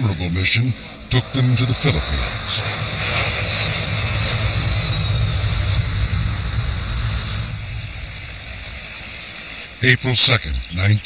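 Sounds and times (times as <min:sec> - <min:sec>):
jet engines roaring with whine: 0:00.0 - 0:11.0.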